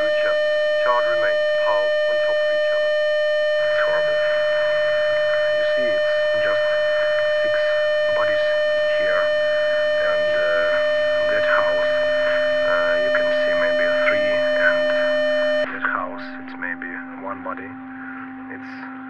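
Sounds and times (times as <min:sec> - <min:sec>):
lower drone tone: 0:00.0 - 0:19.0
synthesizer drone: 0:00.0 - 0:19.0.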